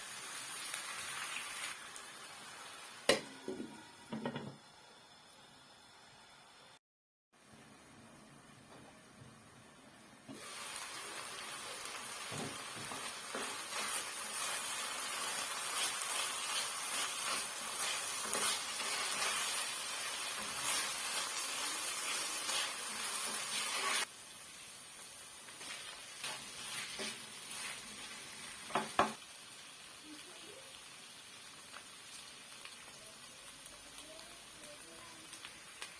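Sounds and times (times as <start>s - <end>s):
food sizzling in frying pan: 0.0s - 6.1s, 10.3s - 35.9s.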